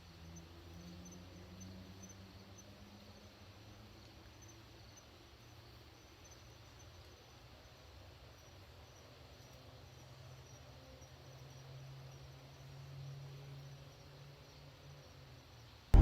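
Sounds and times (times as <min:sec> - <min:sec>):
night insects chirping: 0:00.0 - 0:15.9.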